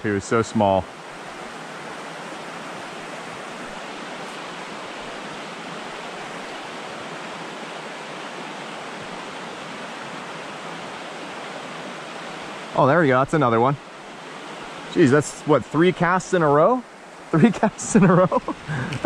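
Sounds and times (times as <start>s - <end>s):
creek water running over stones: 0.0s - 19.0s.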